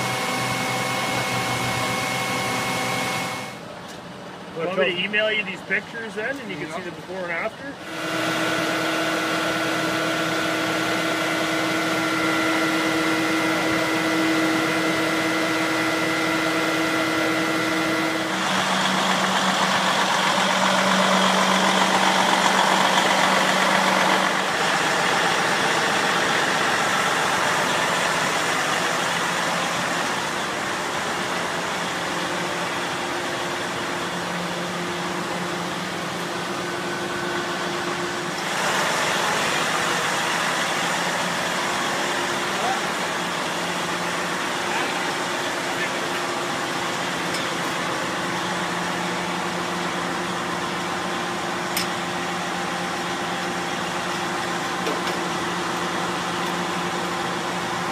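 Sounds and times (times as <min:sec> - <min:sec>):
truck engines idling: 0:00.0 - 0:57.9.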